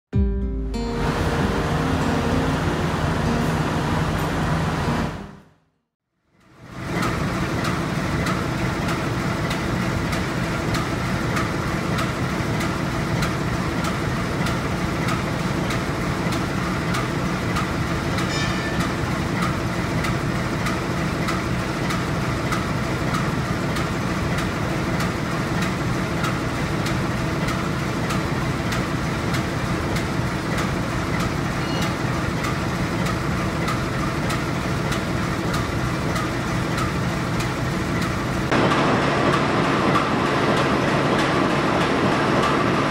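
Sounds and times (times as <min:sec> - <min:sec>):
locomotive diesel engine idling: 0:00.8 - 0:05.5, 0:06.6 - 0:42.9.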